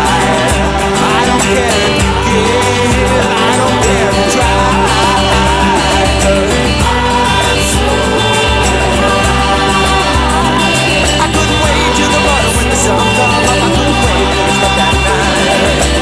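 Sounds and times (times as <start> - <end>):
acoustic guitar: 0.0 - 16.0
bass: 0.0 - 16.0
percussion groove: 0.0 - 16.0
pitch-bending lead melody: 0.0 - 16.0.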